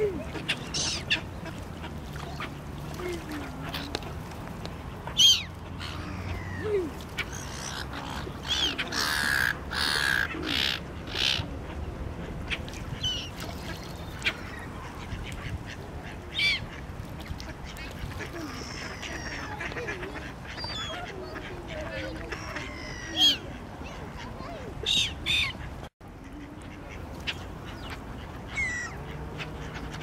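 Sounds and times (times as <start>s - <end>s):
gulls and ducks calling: 0.0s - 4.2s, 5.0s - 11.6s, 12.3s - 30.0s.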